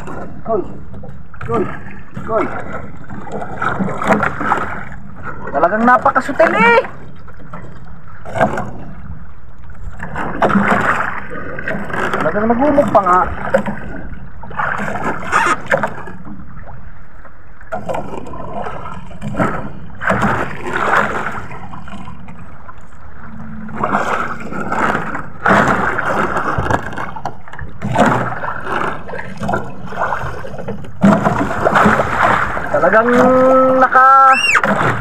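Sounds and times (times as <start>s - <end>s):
water splashing and sloshing: 0.0s - 35.0s.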